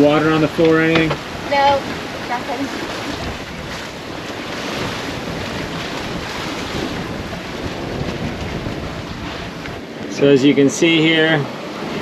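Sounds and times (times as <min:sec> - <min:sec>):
waves washing past hull: 0:00.0 - 0:12.0
wind buffeting microphone: 0:00.0 - 0:12.0.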